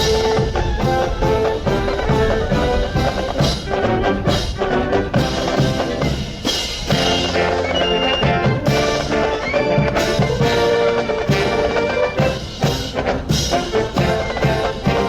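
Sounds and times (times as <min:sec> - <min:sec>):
brass band playing a march: 0:00.0 - 0:15.0.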